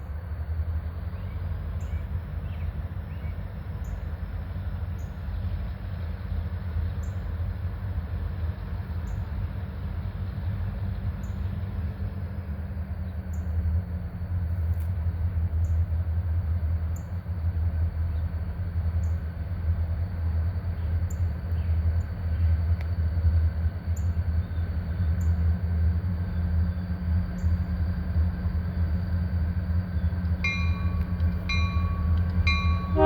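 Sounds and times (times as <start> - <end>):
diesel locomotives rumbling: 0.0 - 33.0.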